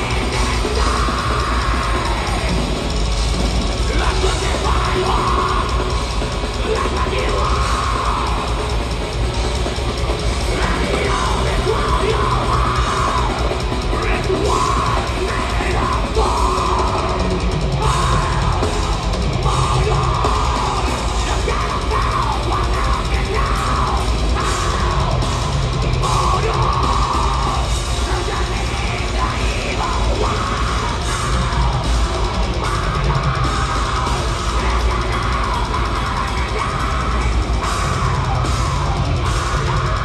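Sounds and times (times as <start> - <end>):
metal band playing live: 0.0 - 40.0.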